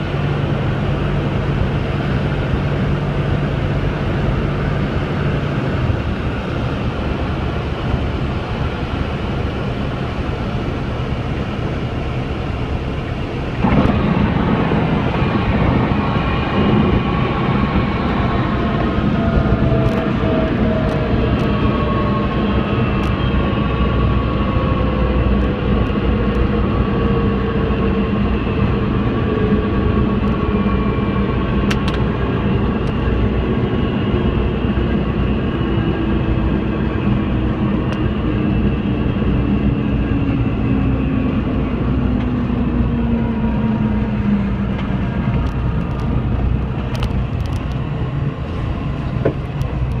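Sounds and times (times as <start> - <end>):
light aircraft engine and propeller: 0.0 - 50.0.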